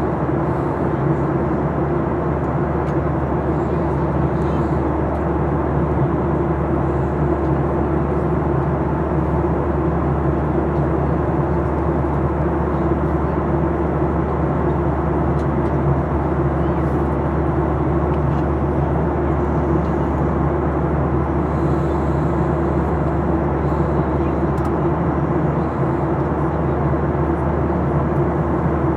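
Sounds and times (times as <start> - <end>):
airplane cabin engine hum: 0.0 - 28.9.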